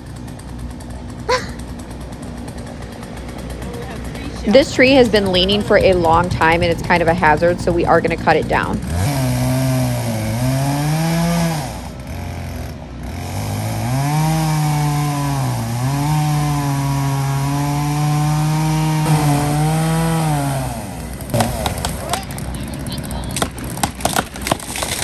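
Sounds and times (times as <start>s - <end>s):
chainsaw cutting tree trunk: 0.0s - 25.0s.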